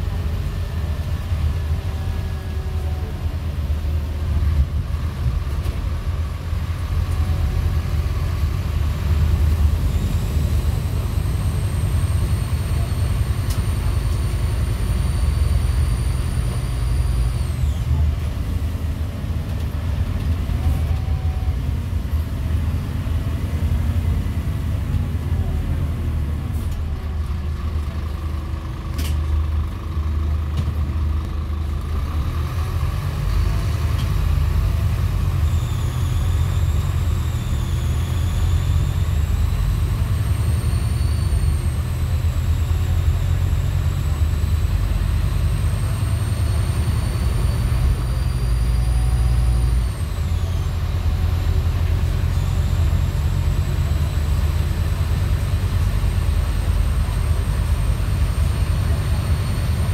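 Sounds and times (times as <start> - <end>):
bus engine droning: 0.0 - 59.9
high turbo whine: 0.0 - 59.9.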